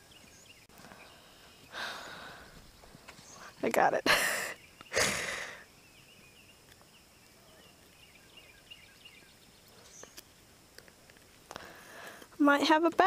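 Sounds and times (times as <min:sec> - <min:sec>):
faint songbirds chirping: 0:00.0 - 0:13.0.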